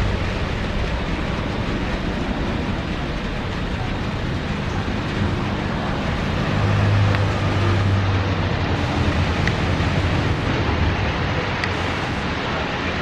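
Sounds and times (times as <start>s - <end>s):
aircraft rushing noise: 0.0s - 13.0s
low hum: 0.0s - 13.0s.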